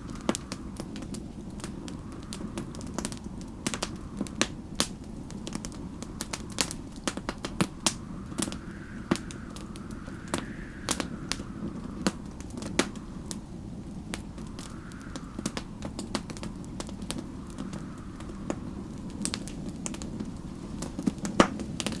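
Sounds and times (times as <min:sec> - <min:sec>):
wind howling faintly: 0:00.0 - 0:22.0
wood fire crackling and popping: 0:00.0 - 0:22.0.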